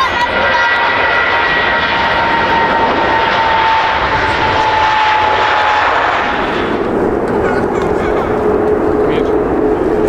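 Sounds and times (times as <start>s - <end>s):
jet airliner passing: 0.0s - 10.0s.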